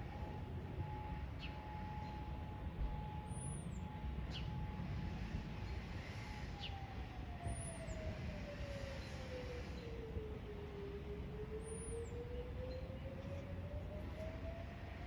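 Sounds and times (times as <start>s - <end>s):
outdoor siren winding down: 0.0s - 4.8s, 6.3s - 15.0s.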